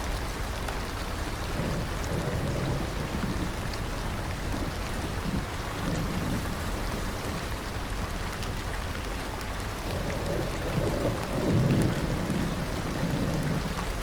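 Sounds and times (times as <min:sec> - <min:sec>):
thunder rumbling: 0:00.0 - 0:08.2, 0:09.4 - 0:14.0
steady rain falling: 0:00.0 - 0:14.0.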